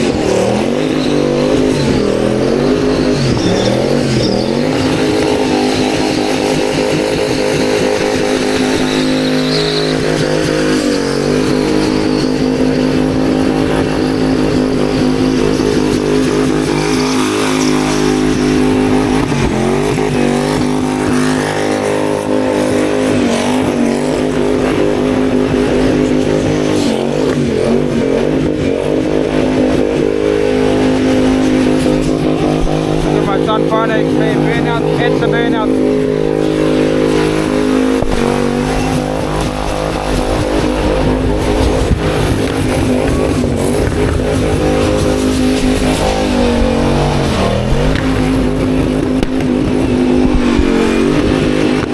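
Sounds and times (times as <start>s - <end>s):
car engine at high revs: 0.0s - 51.9s.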